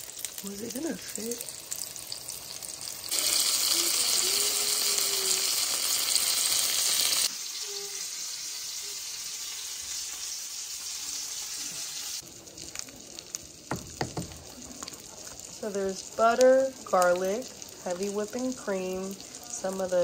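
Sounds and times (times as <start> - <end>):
chicken cutlet frying: 0.0 - 20.0.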